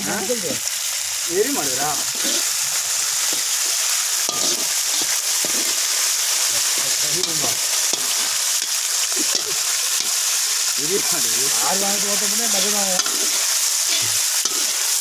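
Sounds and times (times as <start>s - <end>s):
hot oil sizzling in a pan: 0.0s - 15.0s.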